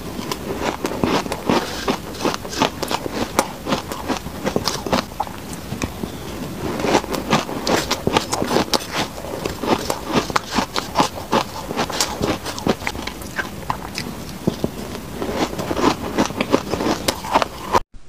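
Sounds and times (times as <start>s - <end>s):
chewing crunchy ice: 0.0s - 17.8s
metal spoon scraping ice: 0.2s - 5.1s, 6.1s - 13.9s, 14.5s - 17.7s.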